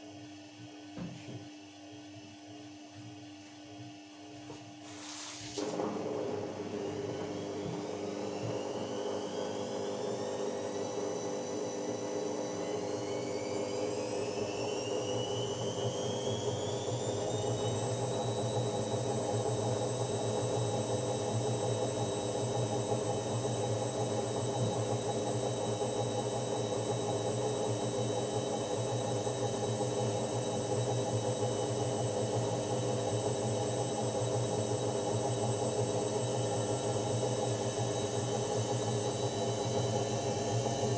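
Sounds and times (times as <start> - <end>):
washing machine motor whine: 0.0 - 40.9
drum motor hum: 5.6 - 40.9.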